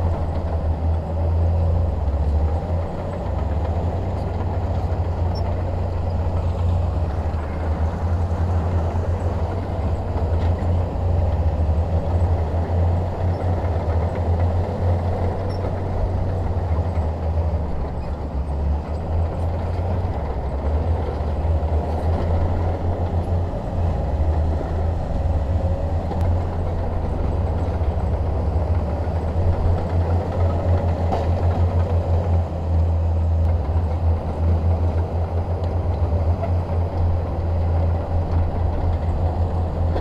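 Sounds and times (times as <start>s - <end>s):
bulldozer diesel engine droning: 0.0s - 40.0s.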